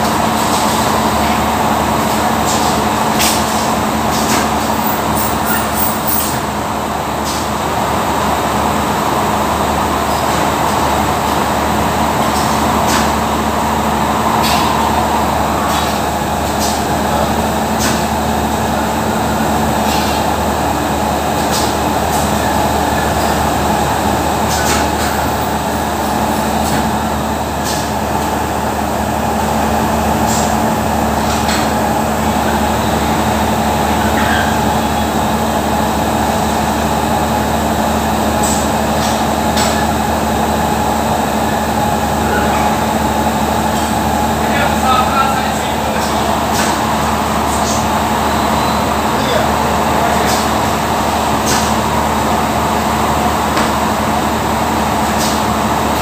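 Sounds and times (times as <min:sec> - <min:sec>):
workshop machinery drone: 0:00.0 - 0:56.0.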